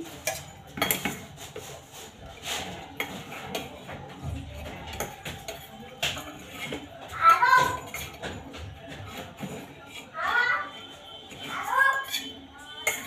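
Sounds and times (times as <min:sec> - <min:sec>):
utensils clinking on pots and plates: 0:00.0 - 0:13.0.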